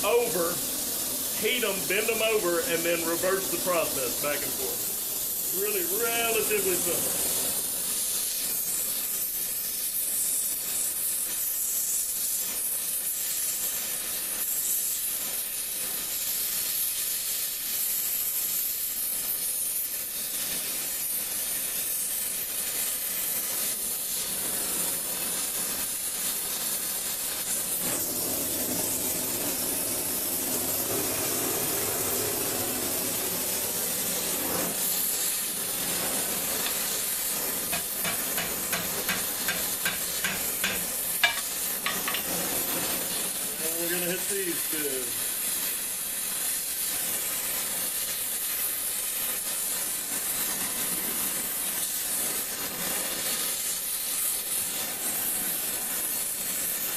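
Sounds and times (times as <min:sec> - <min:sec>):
torch flame hissing: 0:00.0 - 0:56.9.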